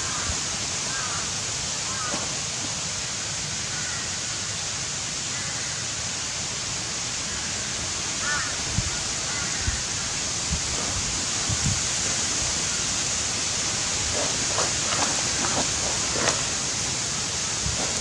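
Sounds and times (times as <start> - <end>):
steady rushing hiss: 0.0 - 18.0.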